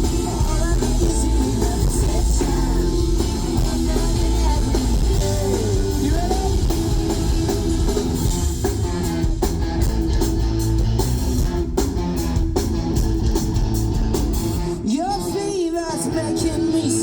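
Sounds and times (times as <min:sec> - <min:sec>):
drum kit: 0:00.0 - 0:15.3
electric guitar: 0:00.0 - 0:17.0.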